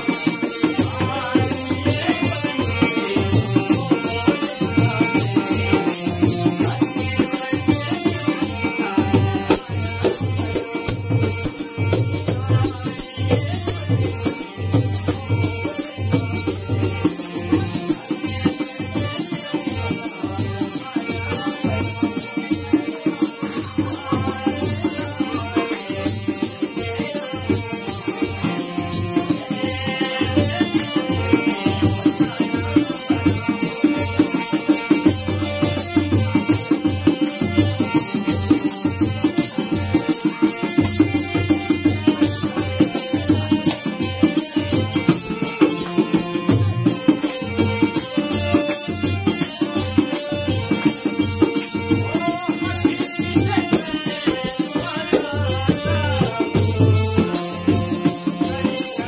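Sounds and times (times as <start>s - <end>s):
fast rattling percussion: 0.0s - 59.0s
steady drum beat: 0.0s - 59.0s.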